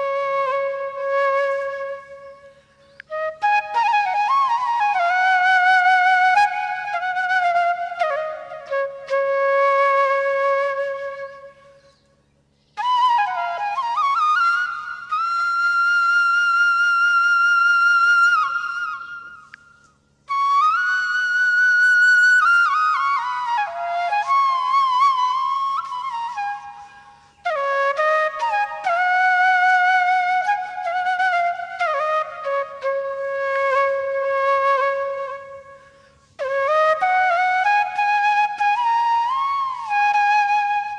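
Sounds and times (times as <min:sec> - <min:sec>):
slow solo flute melody: 0:00.0 - 0:40.9.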